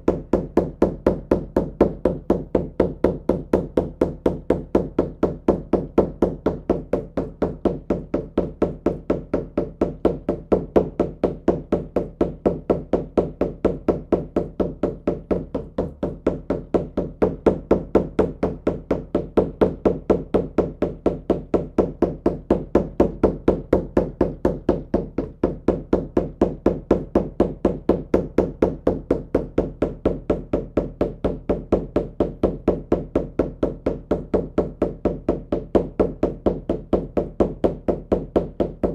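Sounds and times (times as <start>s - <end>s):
hand drum beaten in steady rhythm: 0.0s - 38.9s.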